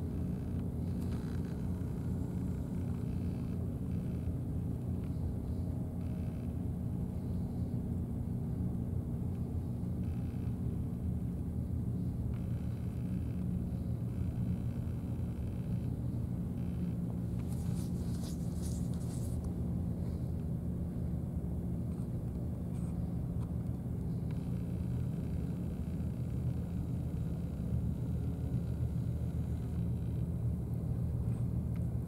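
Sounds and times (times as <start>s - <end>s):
low droning rumble with hum: 0.0s - 32.0s.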